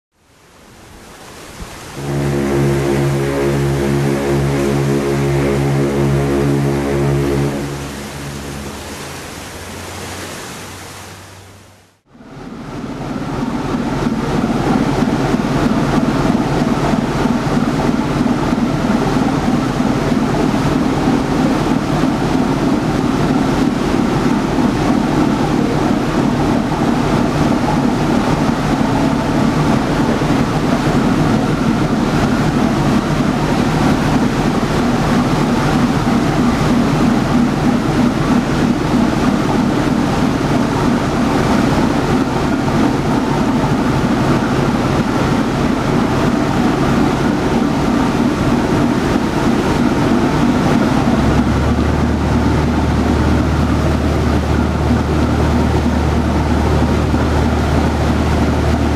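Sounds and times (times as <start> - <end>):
propeller churning water: 0.1 - 58.9
ship diesel engine running: 1.7 - 58.9.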